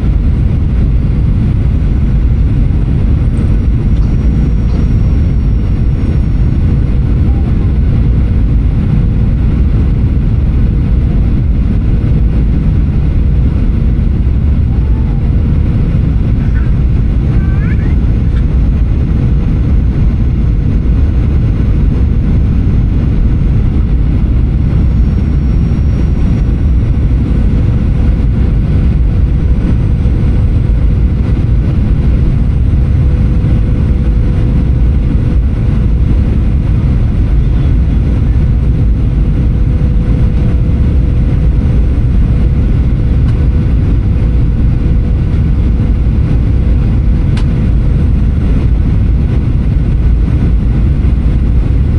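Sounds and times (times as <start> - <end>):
thin steady hum: 0.0 - 44.7
airplane cabin engine rumble: 0.0 - 51.9.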